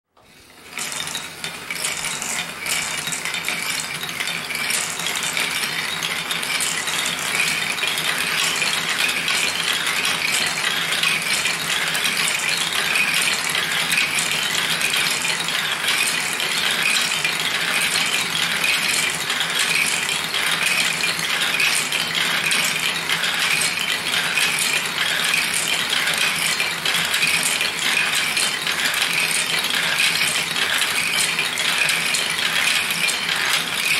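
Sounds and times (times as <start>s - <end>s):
marbles rattling on plastic track: 0.3s - 33.9s.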